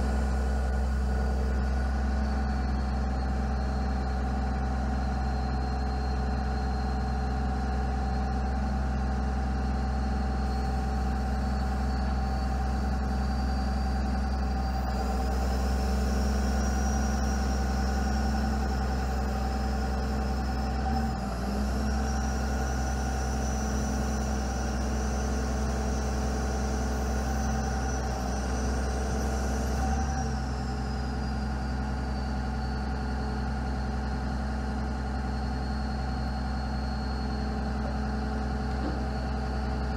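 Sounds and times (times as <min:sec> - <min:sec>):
diesel engine running: 0:00.0 - 0:39.9
high hydraulic whine: 0:00.0 - 0:39.9.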